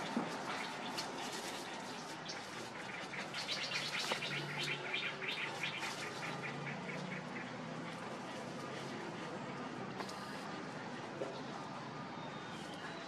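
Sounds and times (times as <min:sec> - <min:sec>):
rapid high chatter: 0:00.0 - 0:13.0.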